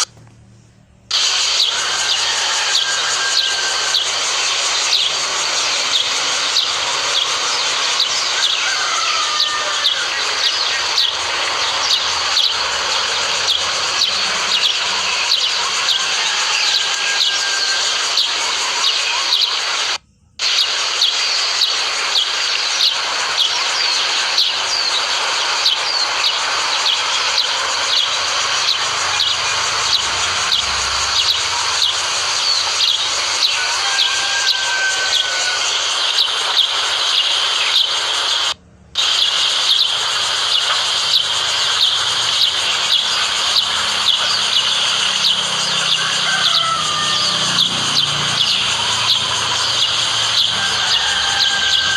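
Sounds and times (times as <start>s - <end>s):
small birds chirping: 0.0s - 51.9s
steady high hiss: 0.0s - 51.9s.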